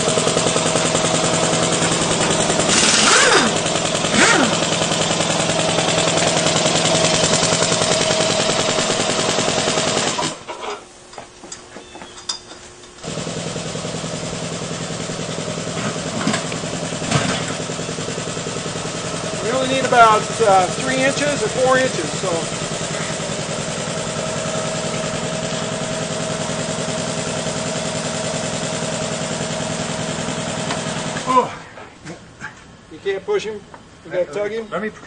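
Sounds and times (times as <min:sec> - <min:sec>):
engine running with pulsing beat: 0:00.0 - 0:10.4, 0:13.0 - 0:31.3.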